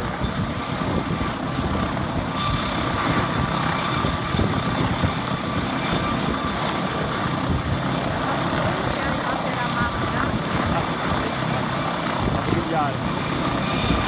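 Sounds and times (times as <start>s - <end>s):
helicopter idling: 0.0s - 14.0s.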